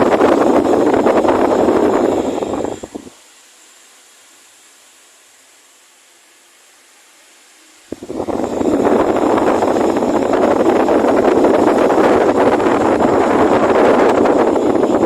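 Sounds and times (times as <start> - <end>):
electric fan air rushing: 0.0 - 15.0.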